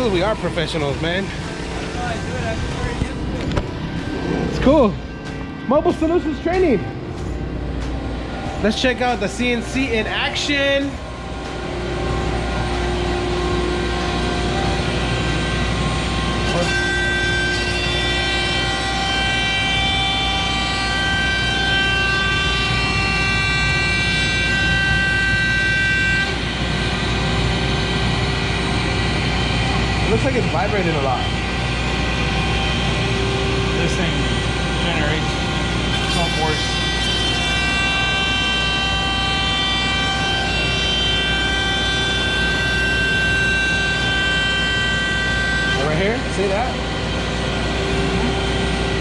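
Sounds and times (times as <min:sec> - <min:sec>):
cnc router spindle whine: 0:00.0 - 0:49.0
rushing machine noise: 0:00.0 - 0:49.0.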